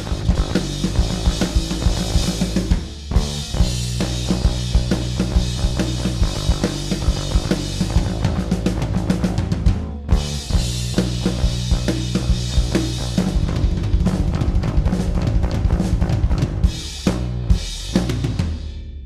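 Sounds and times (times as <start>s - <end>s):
bass line: 0.0s - 18.6s
drum kit playing a groove: 0.0s - 18.8s.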